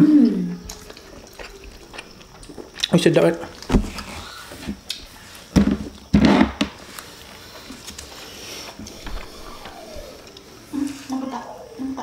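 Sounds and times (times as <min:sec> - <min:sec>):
close eating sounds: 0:00.0 - 0:06.1, 0:06.8 - 0:12.0.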